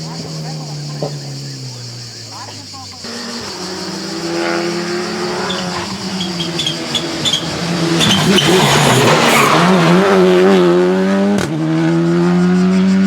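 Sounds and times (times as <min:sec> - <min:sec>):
rally car engine running hard: 0:00.0 - 0:13.0.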